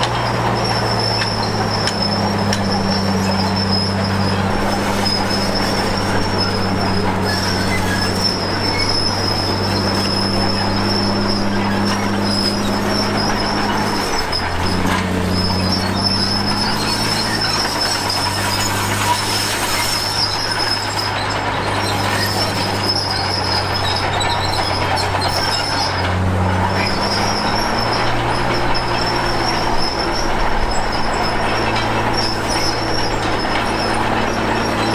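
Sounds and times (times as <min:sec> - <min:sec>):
bulldozer diesel engine: 0:00.0 - 0:34.9
steel tracks squealing and clattering: 0:00.0 - 0:34.9.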